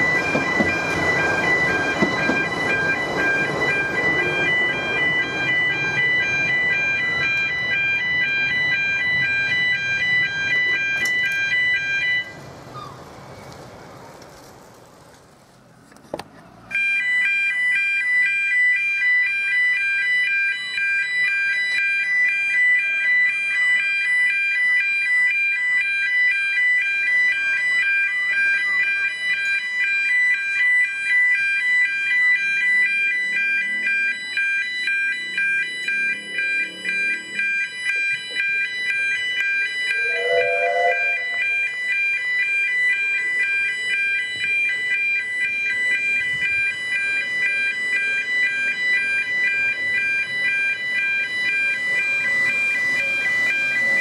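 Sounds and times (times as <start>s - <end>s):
level crossing warning alarm: 0.0s - 12.4s, 16.7s - 54.0s.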